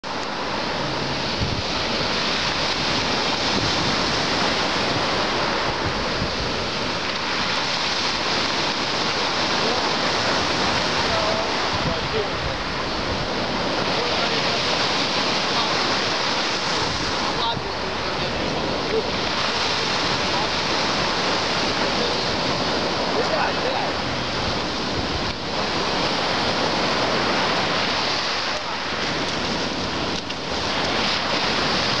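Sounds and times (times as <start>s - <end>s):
waves breaking on shore: 0.0s - 32.0s
wind rumbling on microphone: 0.0s - 32.0s.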